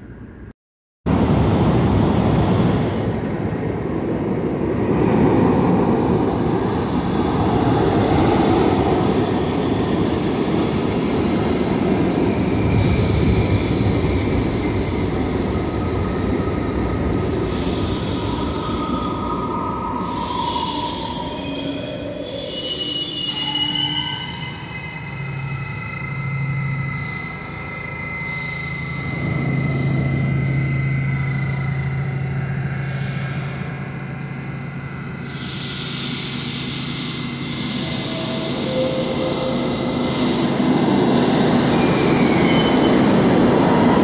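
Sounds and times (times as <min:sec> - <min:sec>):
subway train wheels rumbling: 0:01.1 - 0:44.0.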